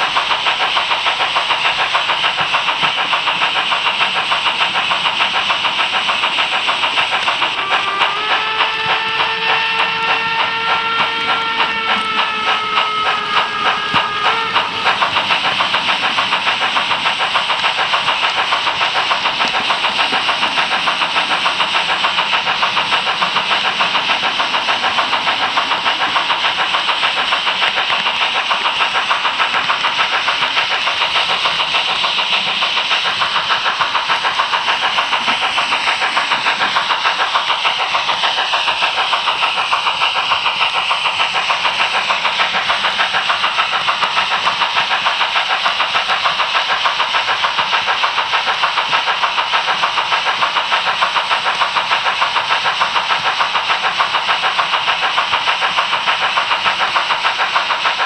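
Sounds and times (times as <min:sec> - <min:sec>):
model locomotive running on track: 0:00.0 - 0:58.0.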